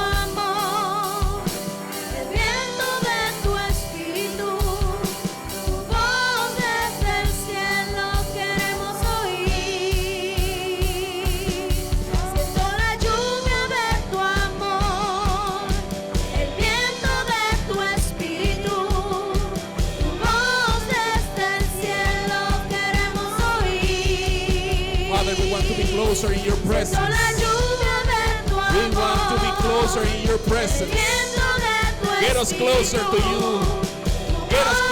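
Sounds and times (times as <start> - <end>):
drum kit steady beat: 0.0 - 34.9
sung melody lines: 0.0 - 34.9
worship band playing: 0.0 - 34.9.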